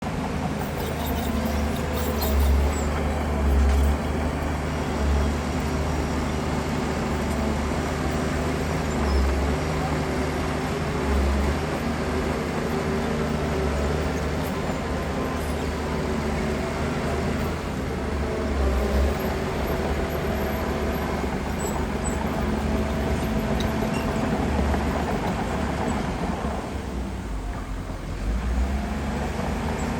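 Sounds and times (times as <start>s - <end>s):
heavy diesel engine droning: 0.0s - 29.9s.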